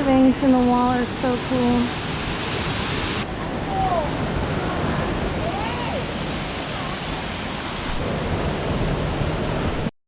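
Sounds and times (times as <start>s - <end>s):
waterfall rushing: 0.0s - 9.9s.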